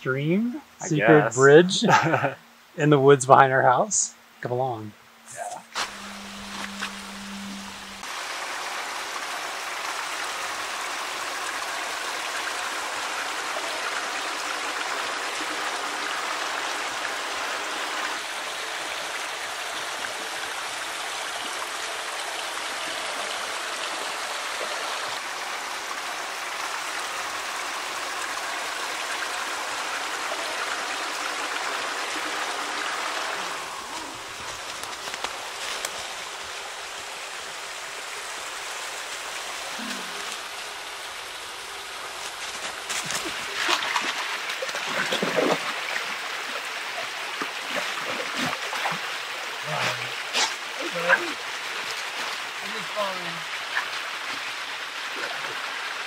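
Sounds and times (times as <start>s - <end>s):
stream water rushing: 5.1s - 56.0s.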